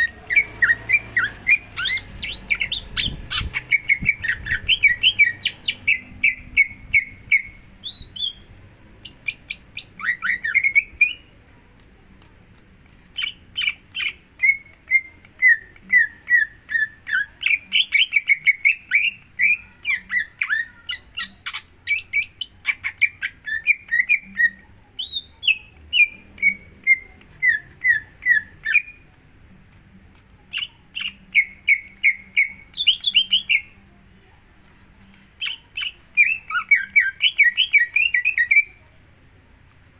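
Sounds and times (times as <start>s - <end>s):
bird chirping song: 0.0s - 11.3s, 13.1s - 29.0s, 30.5s - 33.8s, 35.4s - 38.8s.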